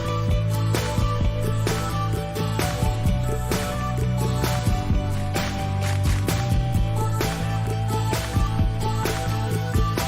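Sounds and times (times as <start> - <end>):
music with a steady beat: 0.0 - 10.0.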